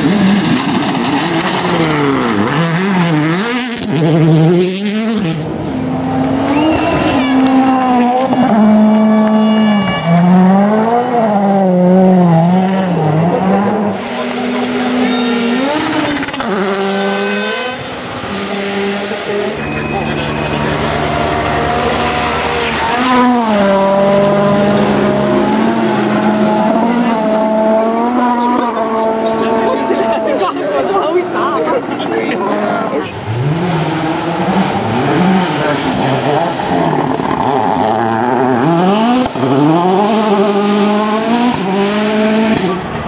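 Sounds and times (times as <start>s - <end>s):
rally car engine under load: 0.0s - 43.0s.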